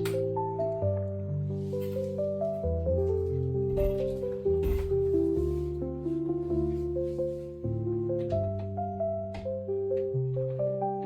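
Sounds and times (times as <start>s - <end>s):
soft sustained background music: 0.0s - 11.0s.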